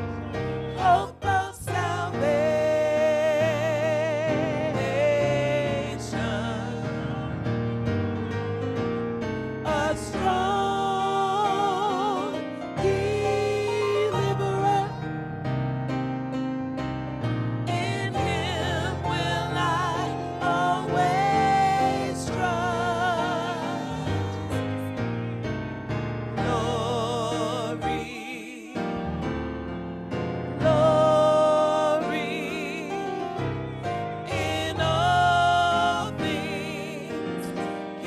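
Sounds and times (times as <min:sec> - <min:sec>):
praise team singing: 0:00.0 - 0:16.0, 0:17.2 - 0:38.0
keyboard accompaniment: 0:00.0 - 0:38.0.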